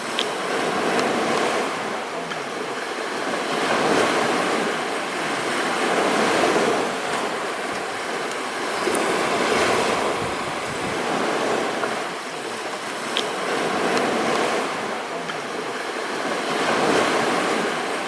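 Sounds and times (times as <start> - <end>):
small waves washing onto shore: 0.0 - 18.0.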